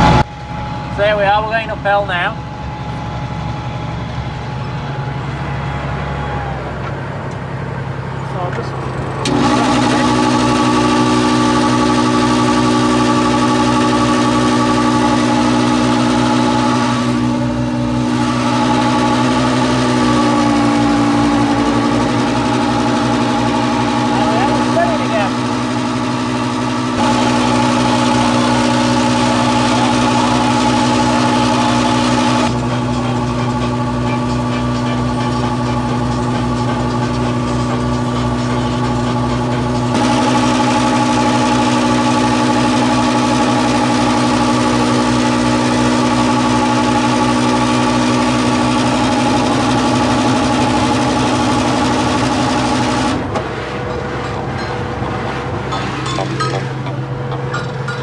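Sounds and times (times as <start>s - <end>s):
steady whine: 0.0s - 5.6s, 8.3s - 58.0s
diesel tractor engine under load: 0.0s - 58.0s.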